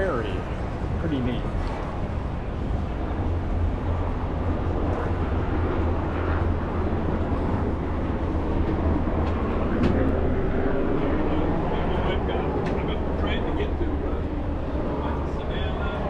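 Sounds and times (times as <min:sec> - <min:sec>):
harbour noise: 0:00.0 - 0:16.0.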